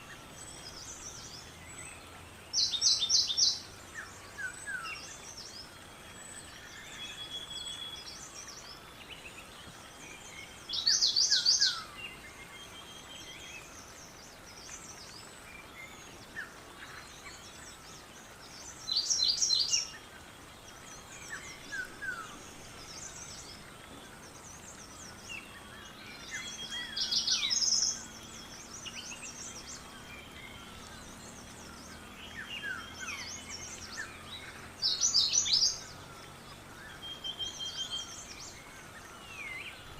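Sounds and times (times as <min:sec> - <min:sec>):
loud bird song of high notes: 0:00.0 - 0:39.9
soft down-slurred bird chirps: 0:00.0 - 0:39.9.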